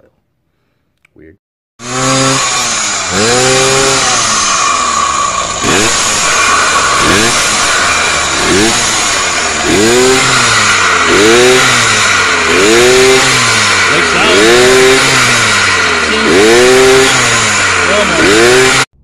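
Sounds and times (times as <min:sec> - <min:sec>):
two-stroke engine revving: 0:01.8 - 0:18.9.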